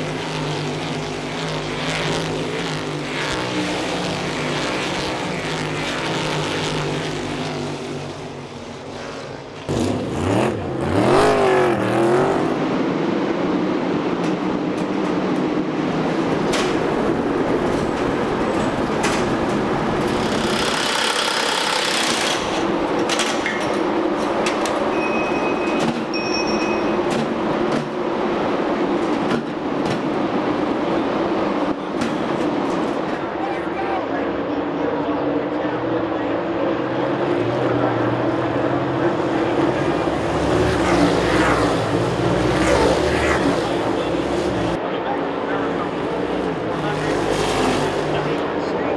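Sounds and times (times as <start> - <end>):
race car engines roaring: 0.0 - 48.9.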